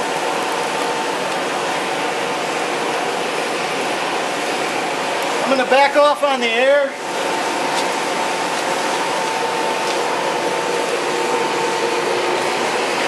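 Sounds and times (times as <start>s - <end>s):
forced air hissing through pipes: 0.0s - 13.0s.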